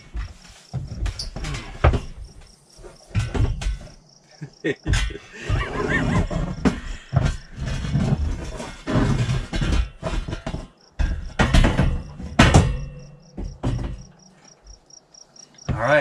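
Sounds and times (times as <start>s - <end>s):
metal bed frame clanking: 0.0s - 14.8s
crickets chirping: 0.0s - 16.0s.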